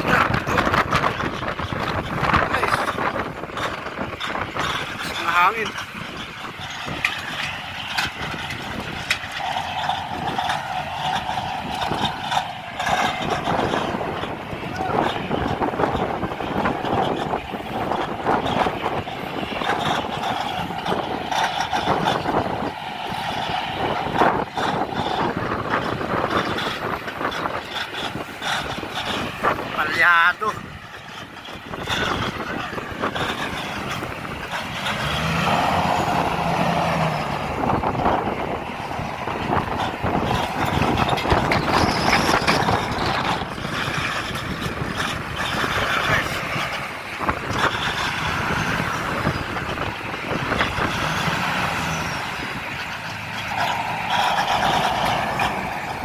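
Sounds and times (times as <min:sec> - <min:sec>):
bulldozer diesel engine running: 0:00.0 - 0:56.0
metal clanks: 0:00.0 - 0:56.0
short clatters: 0:00.0 - 0:56.0.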